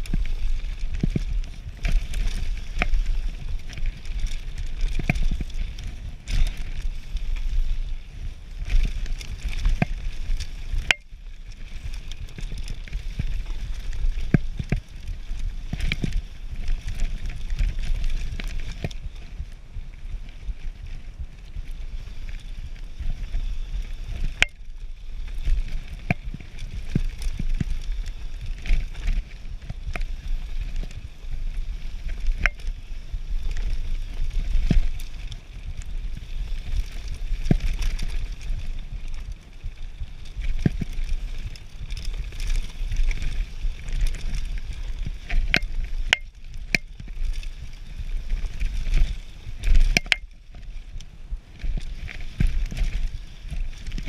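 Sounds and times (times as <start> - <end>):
bike rattling over bumps: 0.0 - 54.0.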